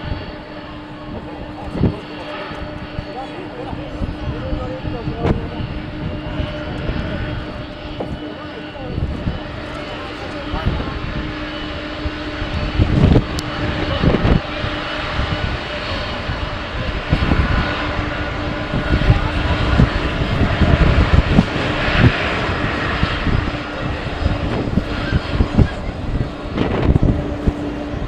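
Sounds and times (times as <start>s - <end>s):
jet engines rushing: 0.0s - 28.0s
wind buffeting microphone: 0.0s - 28.0s.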